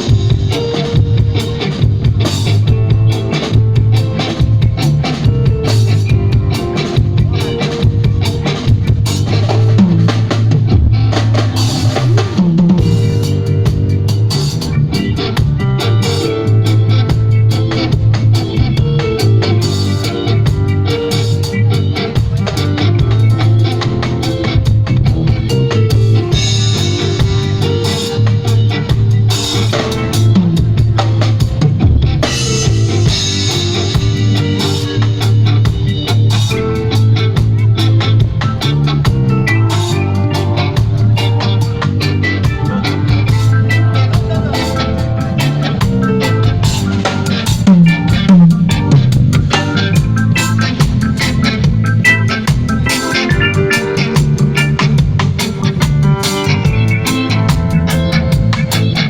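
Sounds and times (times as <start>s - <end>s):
busy drumming and fills: 0.0s - 59.0s
live band jamming: 0.0s - 59.0s
steady bass line: 0.0s - 59.0s.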